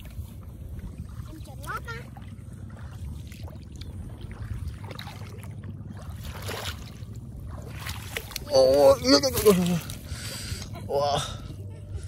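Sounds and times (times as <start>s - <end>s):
splashes in shallow water: 0.0s - 10.8s
wind rumbling on microphone: 0.0s - 10.8s.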